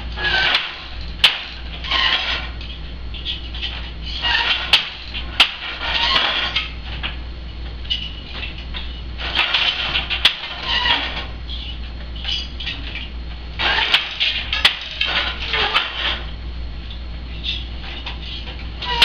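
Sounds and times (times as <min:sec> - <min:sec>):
loom shuttle clatter: 0:00.0 - 0:07.2, 0:07.8 - 0:16.3, 0:17.3 - 0:19.0
steady low hum: 0:00.0 - 0:19.0.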